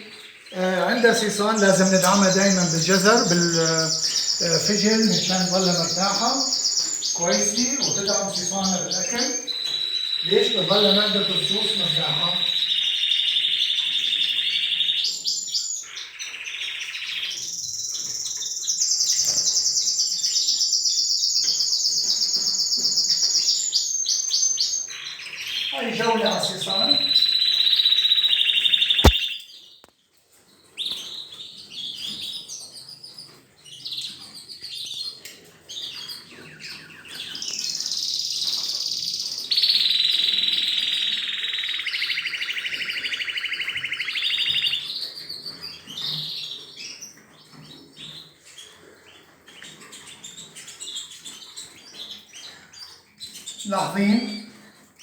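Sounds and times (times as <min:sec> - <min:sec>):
canaries singing trills: 0:00.0 - 0:55.0.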